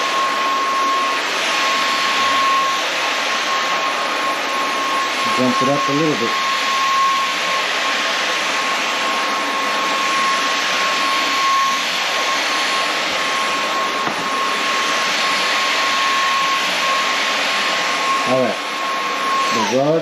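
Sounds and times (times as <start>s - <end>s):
stick vacuum running: 0.0s - 20.0s.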